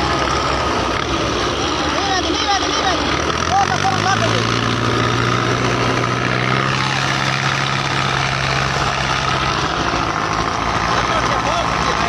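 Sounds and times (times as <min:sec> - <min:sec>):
rough mechanical clatter: 0:00.0 - 0:12.0
tractor engines humming: 0:00.0 - 0:12.0.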